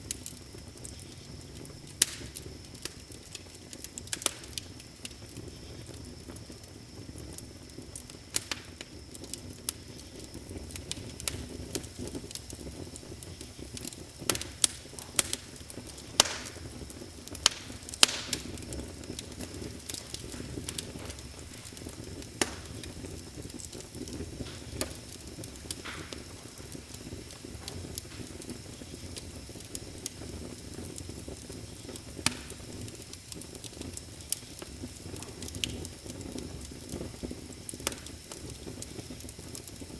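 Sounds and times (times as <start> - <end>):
low rumble of flames: 0.0 - 39.9
wood fire popping and snapping: 0.0 - 39.9.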